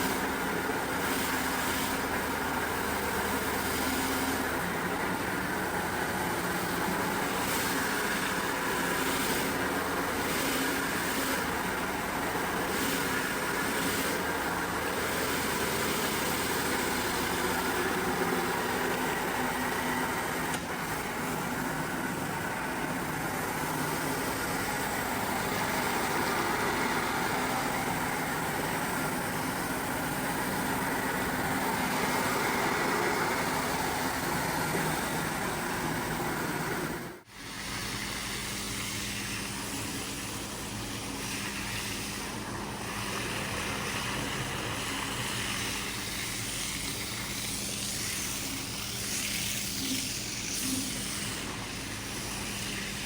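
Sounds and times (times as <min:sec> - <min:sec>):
motor-driven machine running: 0:00.0 - 0:53.0.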